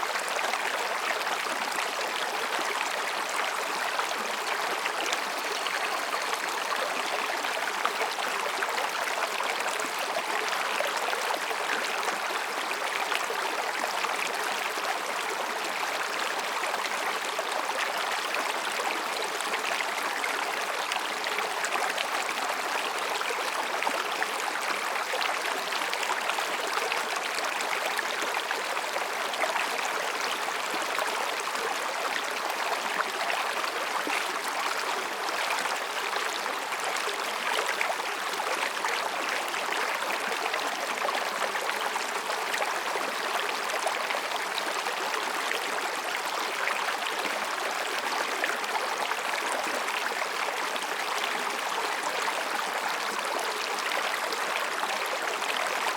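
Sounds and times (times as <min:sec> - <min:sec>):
stream flowing over rocks: 0:00.0 - 0:55.9.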